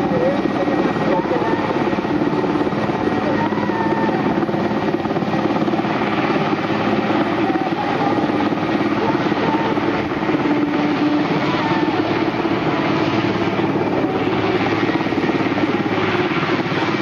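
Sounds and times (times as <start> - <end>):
helicopter rotor beat: 0.0 - 17.0
turbine whine: 0.0 - 17.0.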